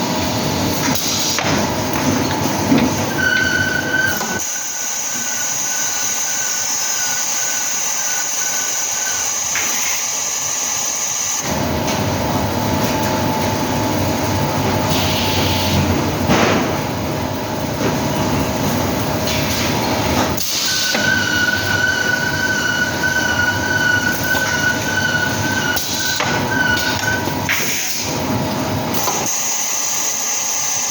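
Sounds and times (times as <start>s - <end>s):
moulding machine whine and hiss: 0.1s - 30.9s.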